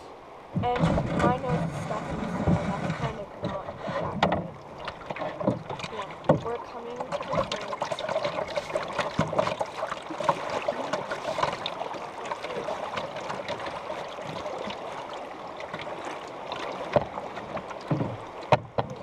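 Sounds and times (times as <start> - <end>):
paddle splashes: 0.0 - 19.0
water gurgling against canoe hull: 0.0 - 19.0.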